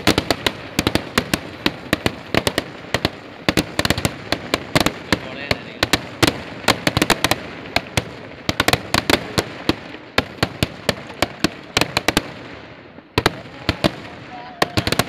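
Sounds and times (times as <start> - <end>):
firecrackers banging: 0.0 - 15.0.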